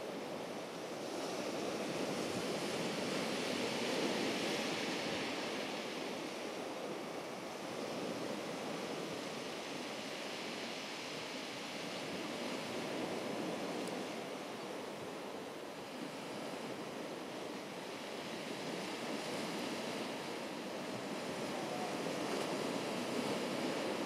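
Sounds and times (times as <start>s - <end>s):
surf washing on shore: 0.0s - 24.0s
wind on microphone: 0.0s - 24.0s.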